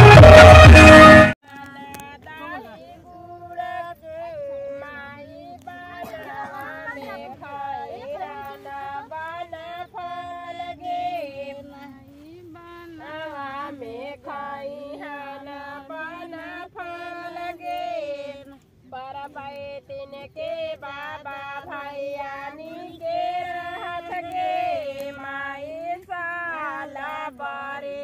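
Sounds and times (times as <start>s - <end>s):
girls and women singing: 0.0s - 28.0s.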